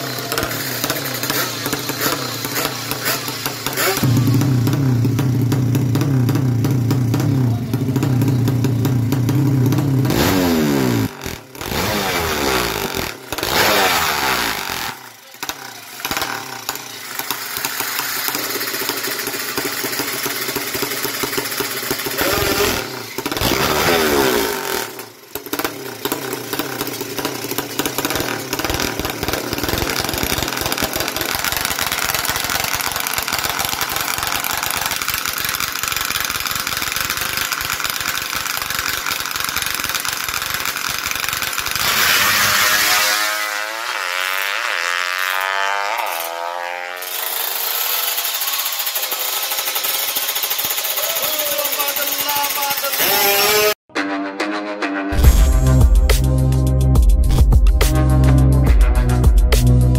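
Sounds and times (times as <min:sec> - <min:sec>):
motorcycle engine rough idle: 0:00.0 - 0:53.7
motorcycle engine revving: 0:00.0 - 0:53.9.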